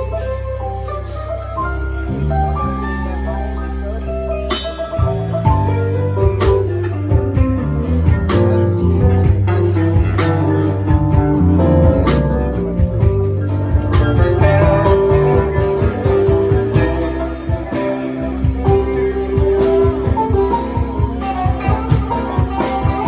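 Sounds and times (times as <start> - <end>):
bass line: 0.0 - 23.0
live band playing: 0.0 - 23.0
sharp drum beats: 1.1 - 23.0
strummed guitar: 2.1 - 23.0.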